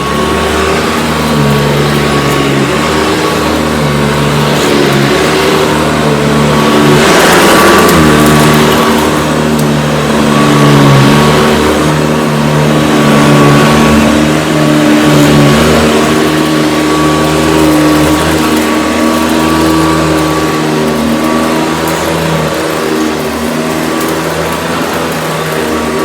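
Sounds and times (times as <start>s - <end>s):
upright vacuum cleaner running: 0.0s - 26.0s.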